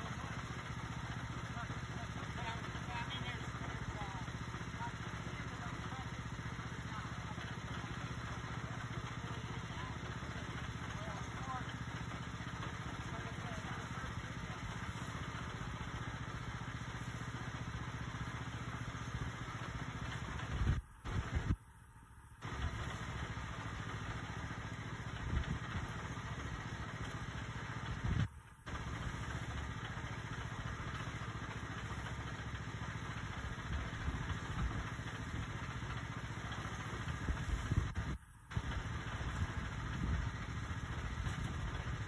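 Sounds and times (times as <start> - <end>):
concrete mixer engine running: 0.0 - 42.0.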